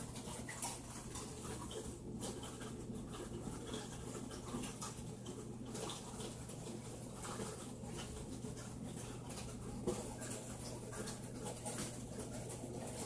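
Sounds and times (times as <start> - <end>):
aquarium equipment humming: 0.0 - 13.0
water trickling: 0.0 - 13.0.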